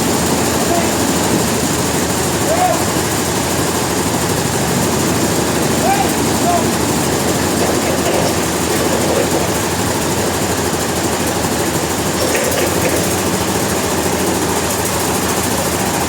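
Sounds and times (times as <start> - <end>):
sawmill engine pulsing: 0.0 - 16.0.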